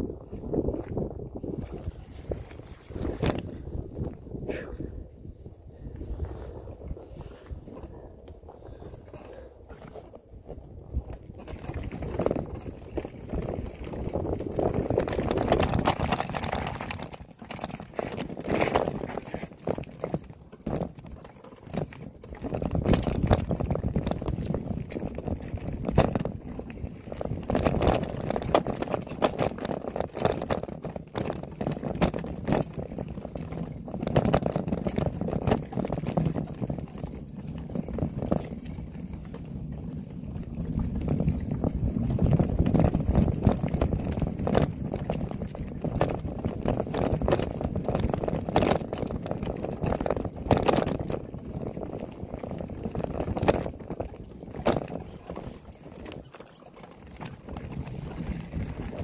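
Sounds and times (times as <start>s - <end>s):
rumble over dirt trail: 0.0s - 59.0s
wind buffeting microphone: 0.0s - 59.0s.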